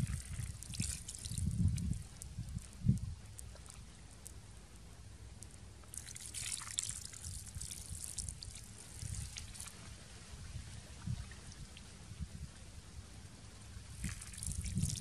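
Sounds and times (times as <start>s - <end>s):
water trickling and dripping: 0.0s - 12.5s, 13.5s - 15.0s.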